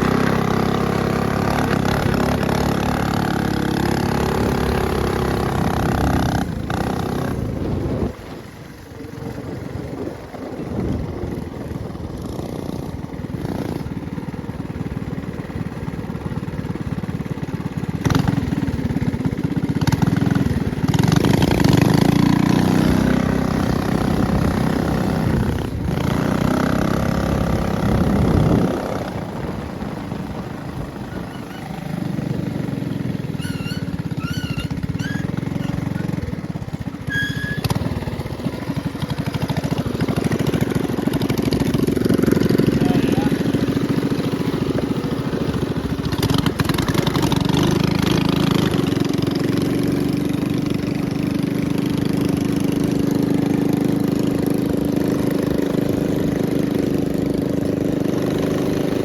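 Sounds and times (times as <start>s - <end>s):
minibike engine revving: 0.0s - 59.0s.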